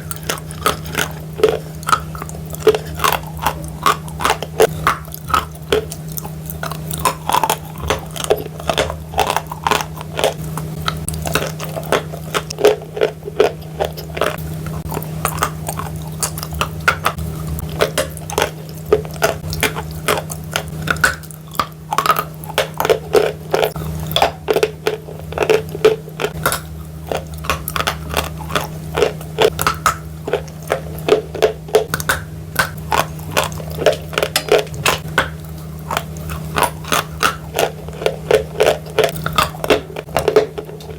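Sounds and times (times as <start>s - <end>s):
chewing crunchy chalk: 0.0s - 40.9s.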